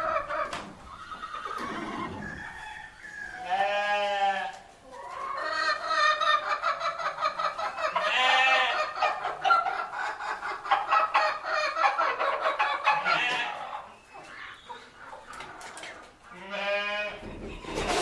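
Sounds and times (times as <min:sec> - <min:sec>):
fowl clucking and calling: 0:00.0 - 0:18.0.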